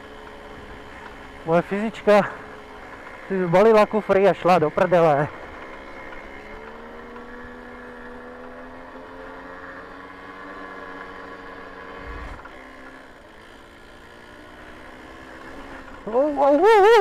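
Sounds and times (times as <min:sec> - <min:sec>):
two-stroke moped engine running: 0:00.0 - 0:17.0.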